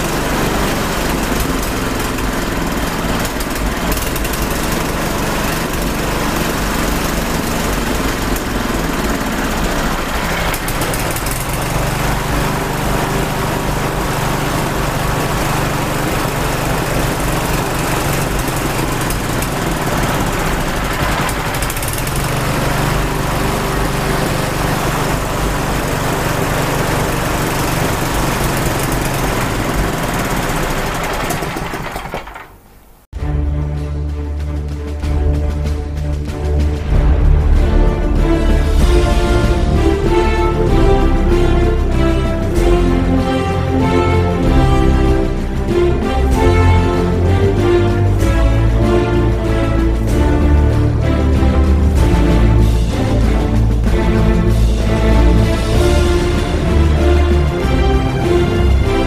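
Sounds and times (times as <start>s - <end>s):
engine running steadily: 0.0s - 32.5s, 33.8s - 59.0s.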